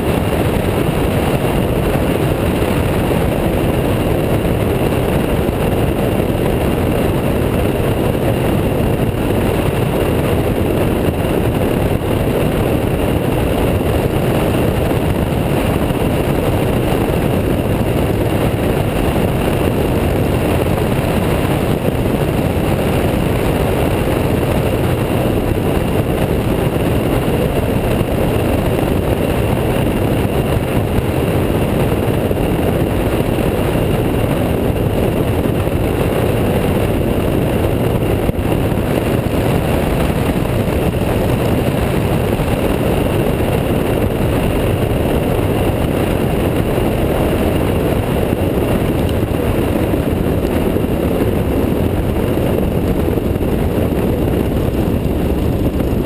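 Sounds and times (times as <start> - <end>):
aircraft engine and propeller roar: 0.0 - 56.0.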